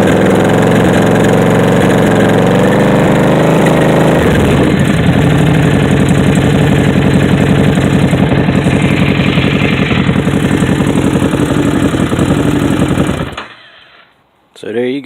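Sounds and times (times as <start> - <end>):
motorcycle engine idling: 0.0 - 13.7.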